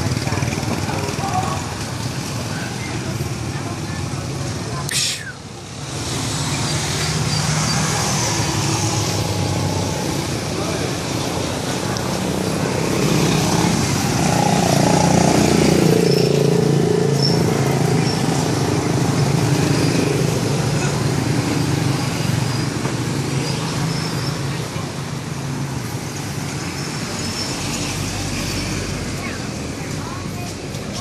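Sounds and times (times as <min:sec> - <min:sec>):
motor traffic: 0:00.0 - 0:31.0
motorbike engines: 0:00.0 - 0:31.0
voices: 0:00.0 - 0:31.0.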